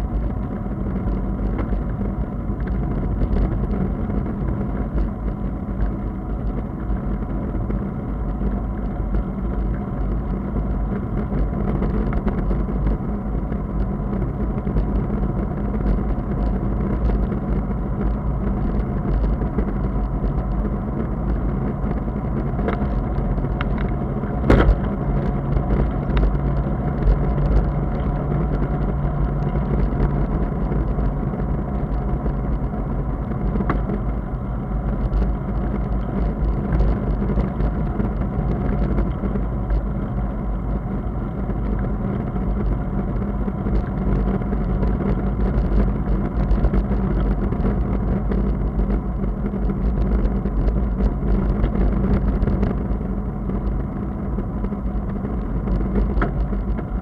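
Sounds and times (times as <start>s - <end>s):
tyre noise on wet road: 0.0s - 57.0s
wind on microphone: 0.0s - 57.0s.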